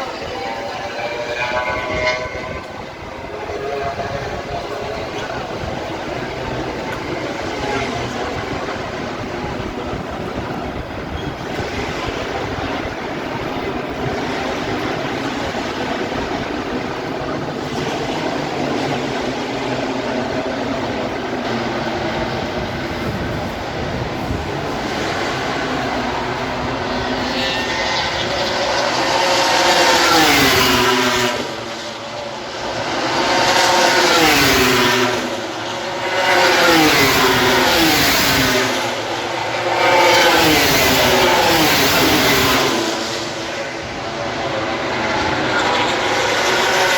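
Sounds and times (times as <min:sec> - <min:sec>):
racing motorcycle engines: 0:00.0 - 0:46.9.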